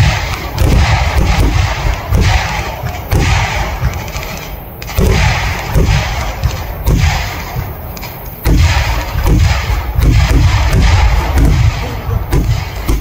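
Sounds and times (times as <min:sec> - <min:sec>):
fireworks booming bangs: 0:00.0 - 0:13.0
fireworks rumble and crackle: 0:00.0 - 0:13.0.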